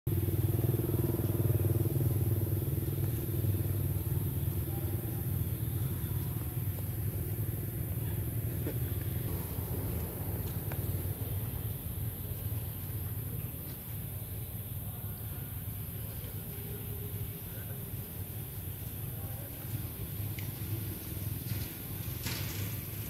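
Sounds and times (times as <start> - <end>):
engine humming: 0.1 - 23.0.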